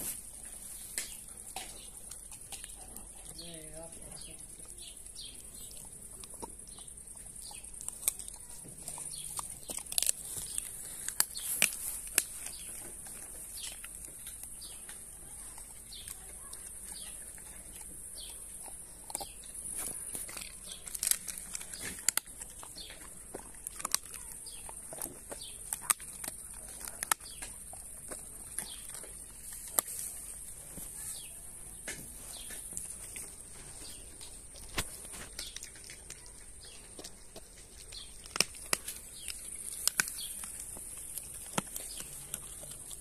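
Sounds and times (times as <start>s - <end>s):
dog chewing bone: 0.2s - 43.0s.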